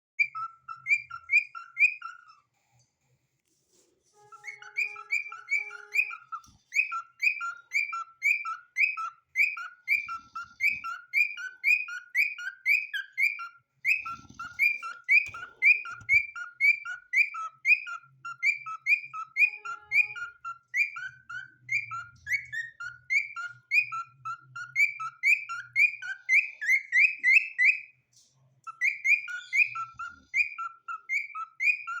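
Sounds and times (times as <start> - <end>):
cockatiel whistled chirps: 0.2 - 2.4, 4.2 - 28.0, 28.6 - 32.0.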